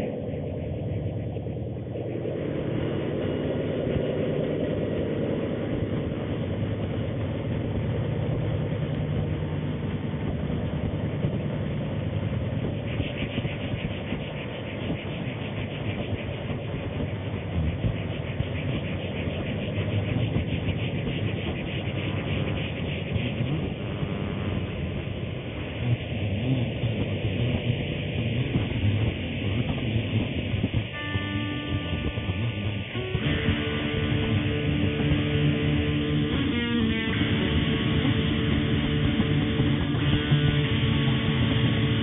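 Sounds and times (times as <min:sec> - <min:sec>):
crackling static hiss: 0:00.0 - 0:42.0.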